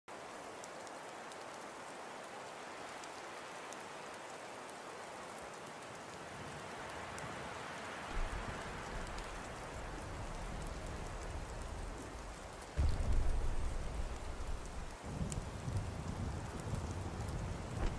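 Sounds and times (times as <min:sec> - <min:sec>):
raindrop ticks: 0:00.1 - 0:07.4, 0:08.1 - 0:17.9
rain hiss: 0:00.1 - 0:17.9.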